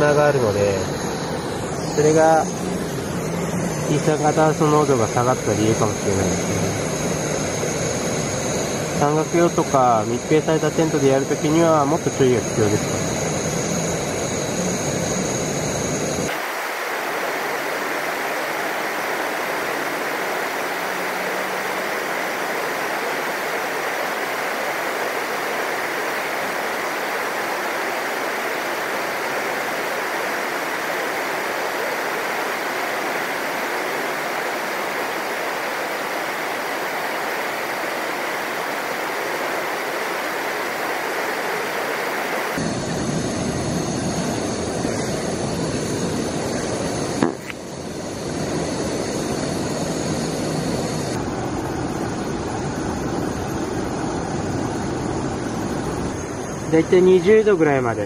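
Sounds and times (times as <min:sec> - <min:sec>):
camping stove hissing: 0:00.0 - 0:57.9.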